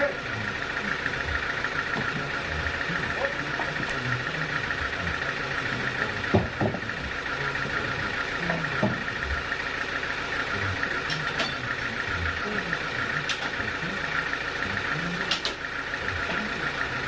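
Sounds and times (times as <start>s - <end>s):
sawmill machinery humming: 0.0s - 17.0s.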